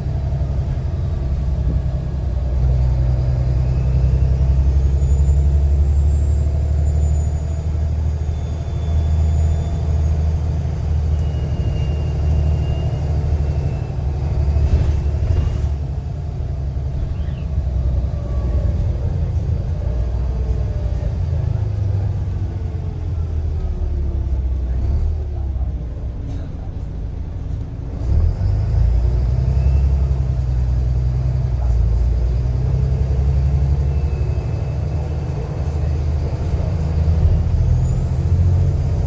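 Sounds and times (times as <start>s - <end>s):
bus diesel engine droning: 0.0s - 39.0s.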